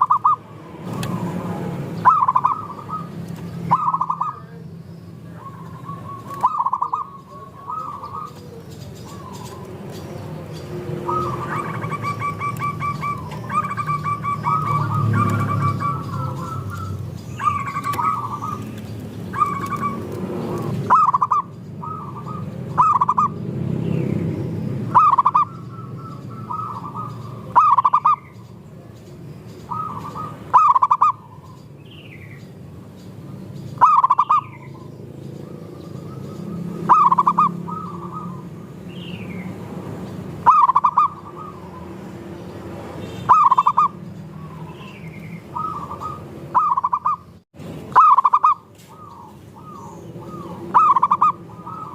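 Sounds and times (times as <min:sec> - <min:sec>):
doves cooing: 0:00.0 - 0:23.4, 0:24.8 - 0:28.9, 0:29.6 - 0:31.7, 0:33.7 - 0:38.8, 0:39.7 - 0:42.2, 0:43.2 - 0:51.9
small birds chirping: 0:00.0 - 0:51.9.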